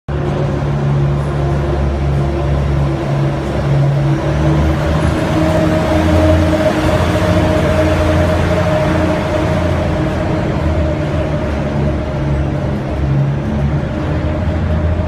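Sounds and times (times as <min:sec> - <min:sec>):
locomotive engine drone: 0:00.1 - 0:15.0
train rumble: 0:00.1 - 0:15.0.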